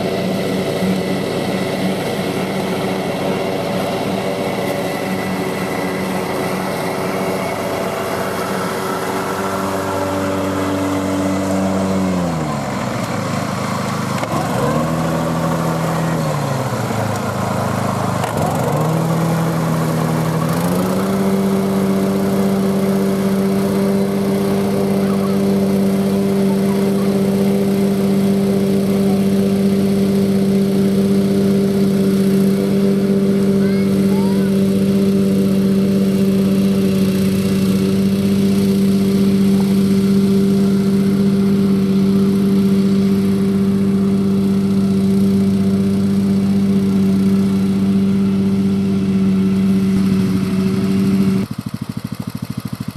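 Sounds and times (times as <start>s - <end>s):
walk-behind tractor engine running: 0.0s - 52.9s.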